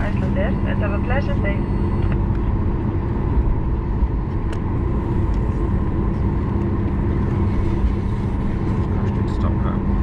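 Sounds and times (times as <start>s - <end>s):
aircraft cabin rumble: 0.0s - 10.0s.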